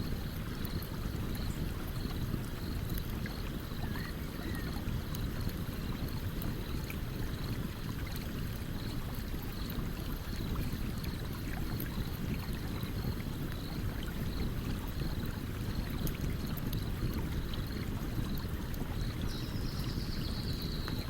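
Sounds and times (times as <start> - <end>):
stream water running: 0.0 - 21.0.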